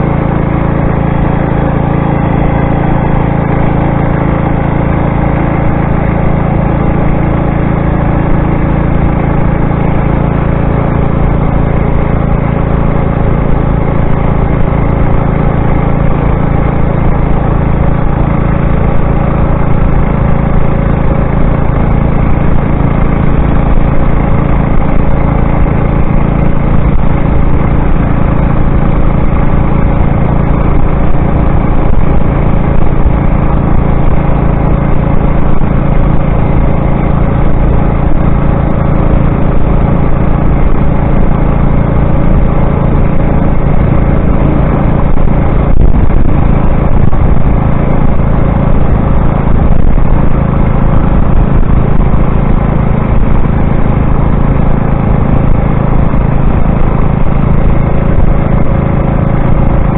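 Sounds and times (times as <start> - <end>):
motorized bicycle engine running: 0.0 - 59.9.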